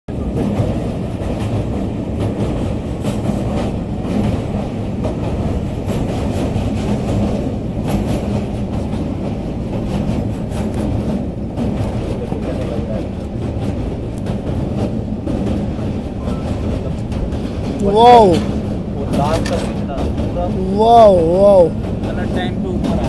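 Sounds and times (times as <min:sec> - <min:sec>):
train wheels rumbling on track: 0:00.1 - 0:23.0
wheels clacking and knocking: 0:00.1 - 0:23.0.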